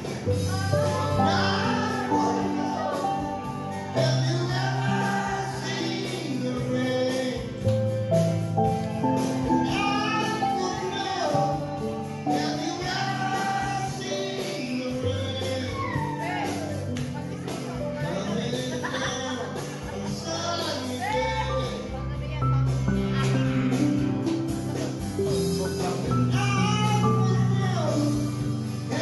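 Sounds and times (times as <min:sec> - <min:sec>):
song with singing and instruments: 0:00.0 - 0:29.0.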